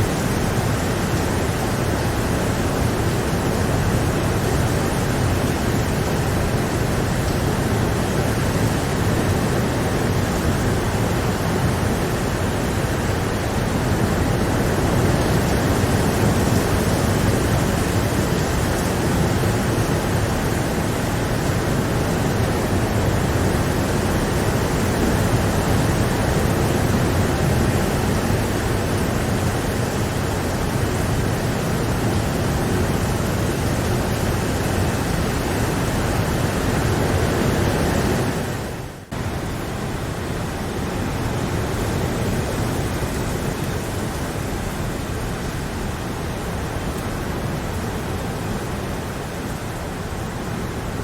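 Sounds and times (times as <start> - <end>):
steady rain hiss: 0.0 - 51.0.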